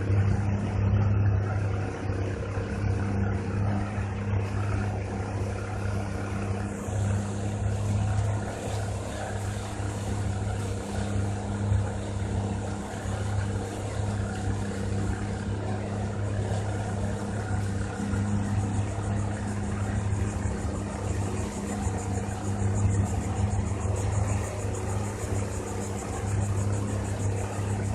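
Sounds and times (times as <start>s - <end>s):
motorboat engine running: 0.0s - 27.9s.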